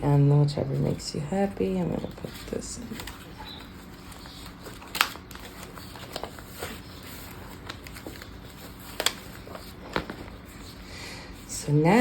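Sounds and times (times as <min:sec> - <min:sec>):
rustling paper and cover: 0:00.5 - 0:12.0.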